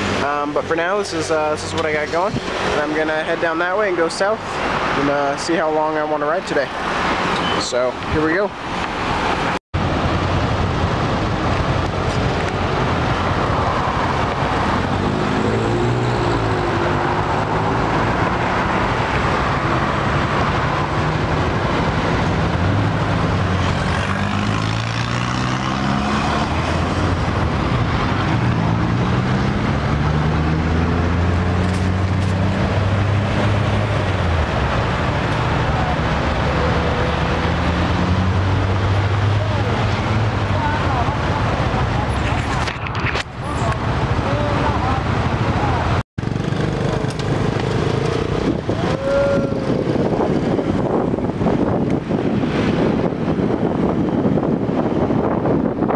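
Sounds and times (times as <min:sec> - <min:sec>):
rush of traffic: 0:00.0 - 0:55.9
motorbike and car engines revving: 0:06.3 - 0:55.9.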